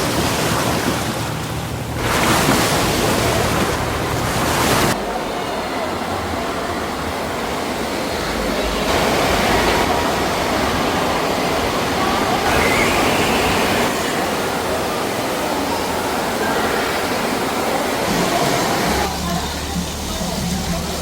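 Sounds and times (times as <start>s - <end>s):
wave pool water rushing: 0.0s - 21.0s.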